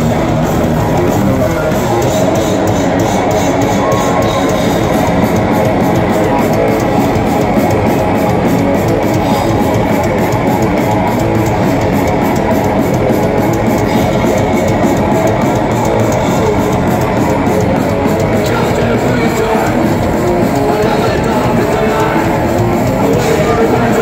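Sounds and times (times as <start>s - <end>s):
live thrash metal band: 0.0s - 24.0s.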